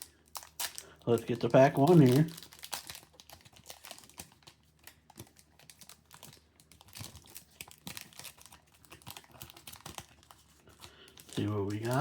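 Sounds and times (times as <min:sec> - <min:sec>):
wrapper crinkling: 0:00.0 - 0:12.0.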